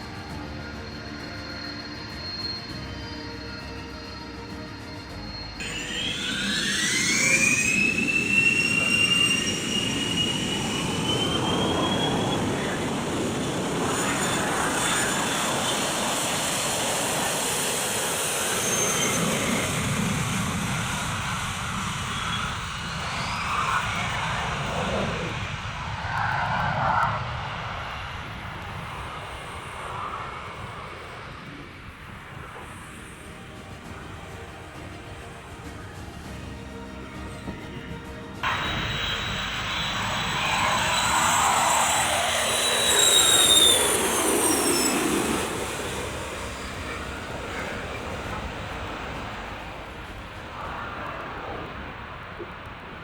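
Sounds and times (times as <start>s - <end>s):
jet engines spooling up: 0.0s - 53.0s.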